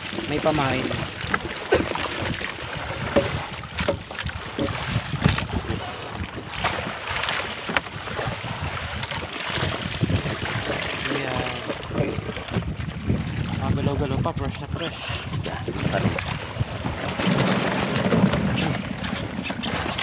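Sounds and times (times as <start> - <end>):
open water: 0.0 - 20.0
wind noise on microphone: 0.0 - 20.0.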